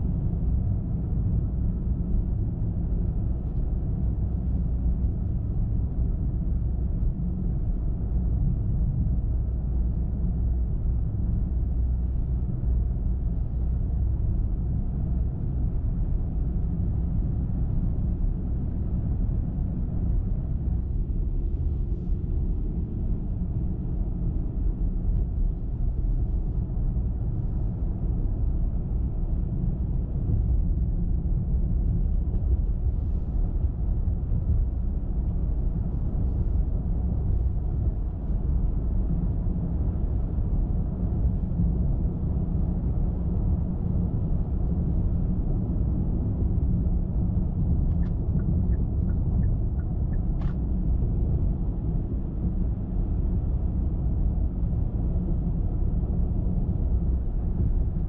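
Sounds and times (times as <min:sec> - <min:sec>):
car road rumble and tyre noise: 0:00.0 - 0:58.0.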